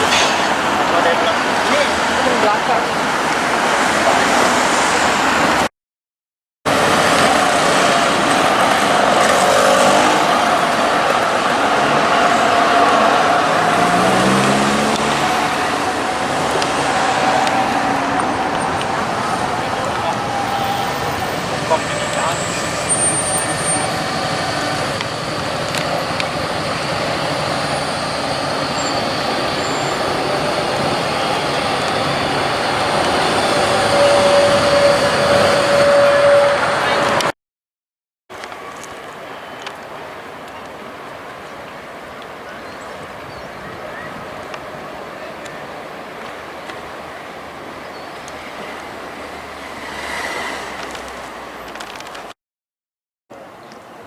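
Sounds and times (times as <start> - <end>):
street vehicle noise: 0.0 - 5.7, 6.7 - 37.4, 38.3 - 52.4, 53.3 - 54.0
tram rolling on rails: 0.0 - 5.7, 6.7 - 37.3, 38.4 - 52.3.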